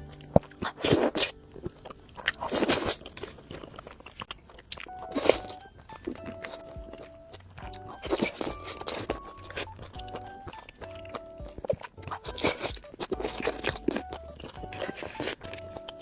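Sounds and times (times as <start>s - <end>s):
person chewing crunchy food: 0.0s - 16.0s
quiet background music: 0.0s - 16.0s.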